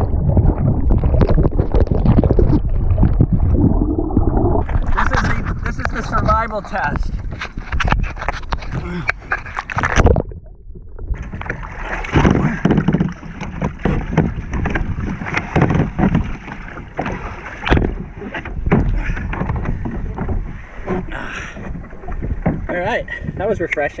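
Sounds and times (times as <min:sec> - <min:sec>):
water splashing around kayak: 0:00.0 - 0:24.0
wind buffeting microphone: 0:00.0 - 0:24.0.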